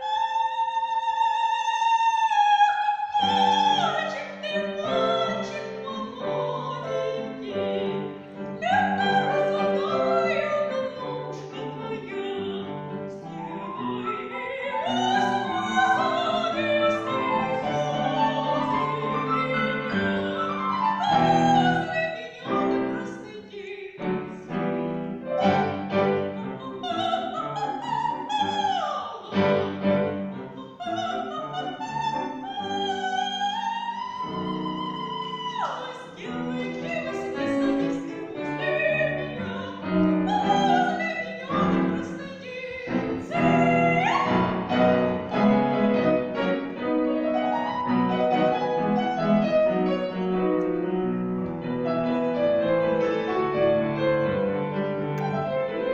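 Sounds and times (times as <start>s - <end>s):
woman singing classical: 0.0s - 55.9s
piano accompaniment: 3.1s - 55.9s.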